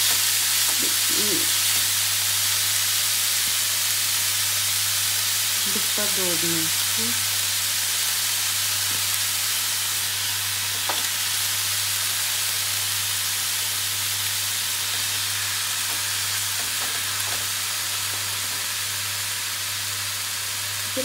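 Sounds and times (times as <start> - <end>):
grill low hum: 0.0 - 21.0
meat sizzling on a grill: 0.0 - 21.0.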